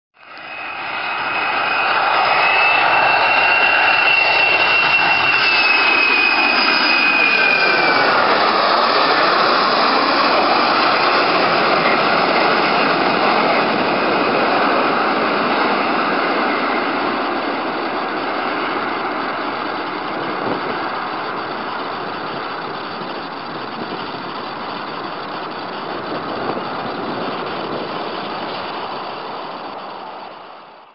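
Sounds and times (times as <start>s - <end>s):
jet airliner passing overhead: 0.2s - 30.9s.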